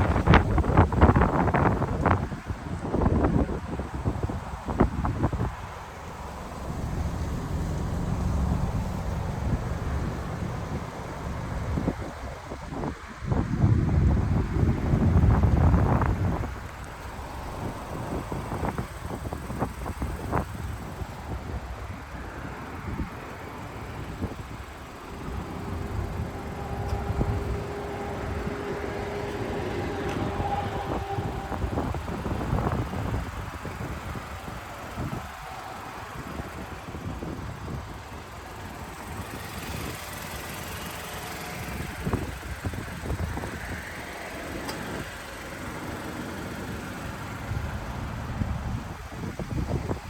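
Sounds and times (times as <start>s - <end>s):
car engine idling: 0.0s - 50.0s
wind buffeting microphone: 0.0s - 50.0s.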